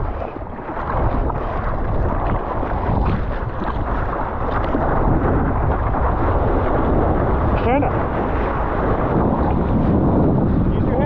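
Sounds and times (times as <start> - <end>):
sea water rushing and splashing: 0.0 - 11.0
wind rumble on microphone: 0.0 - 11.0.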